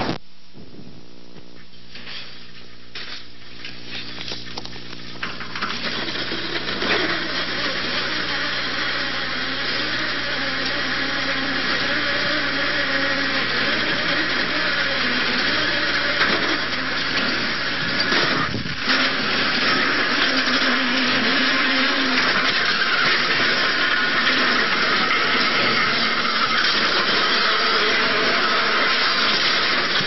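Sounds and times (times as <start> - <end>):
chairlift mechanical whirring: 0.0 - 30.0
low hum: 0.0 - 30.0.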